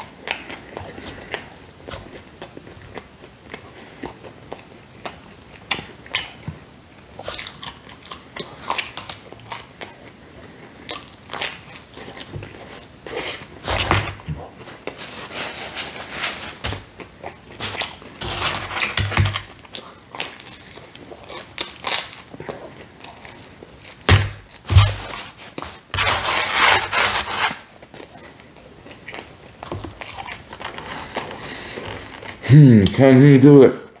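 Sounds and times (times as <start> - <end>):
man chewing food: 0.0 - 33.0.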